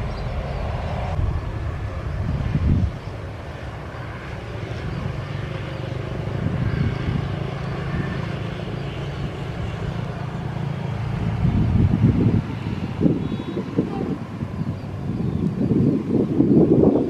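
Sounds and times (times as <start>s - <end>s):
motorbikes riding past: 0.0s - 15.8s
small motorcycle engines humming: 0.0s - 17.0s.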